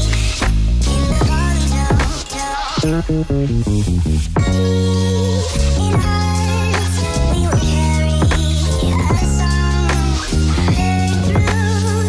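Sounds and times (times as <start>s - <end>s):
electronic music with strong bass: 0.0s - 12.0s.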